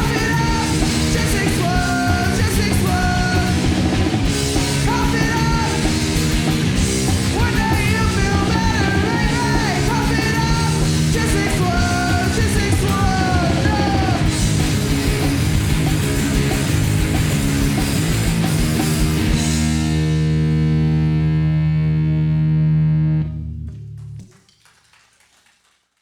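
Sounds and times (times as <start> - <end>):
drum kit: 0.0 - 21.3
bass guitar: 0.0 - 24.3
electric guitar: 0.0 - 24.3.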